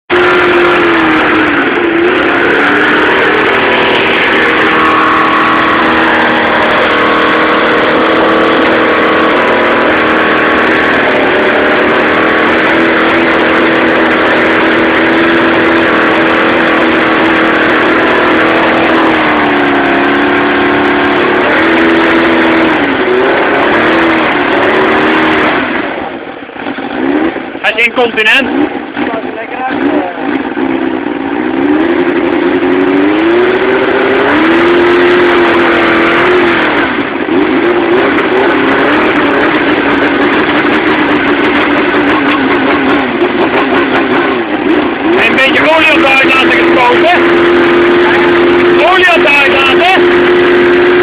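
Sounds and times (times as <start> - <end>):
loud motorcycle engine revving: 0.0 - 51.0.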